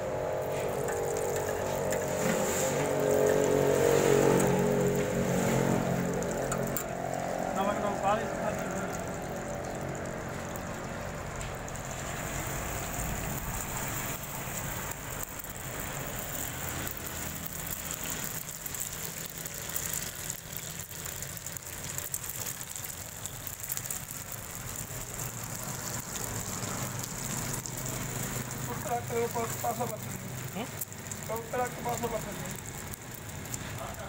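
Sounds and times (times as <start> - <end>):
egg sizzling on a griddle: 0.0 - 34.0.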